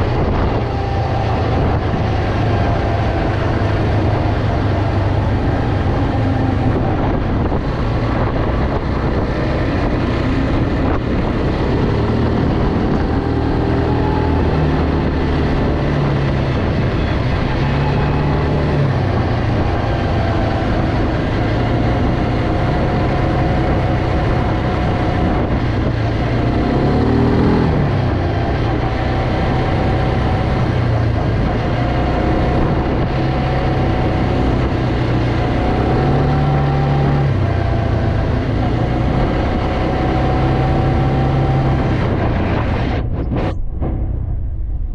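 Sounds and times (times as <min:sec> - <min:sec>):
quad bike engine running: 0:00.0 - 0:44.2.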